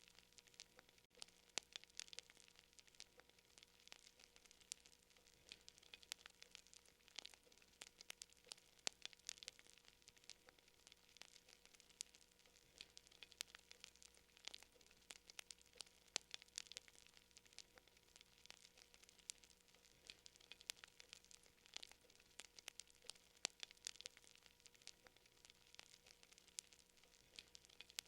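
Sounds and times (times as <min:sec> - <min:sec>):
soft hiss: 0:00.0 - 0:28.0
wood fire crackling: 0:00.0 - 0:28.0.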